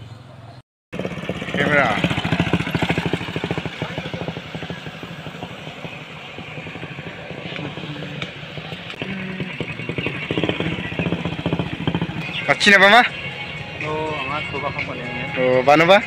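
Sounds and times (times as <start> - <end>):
motorcycle engine running: 0.9 - 15.8.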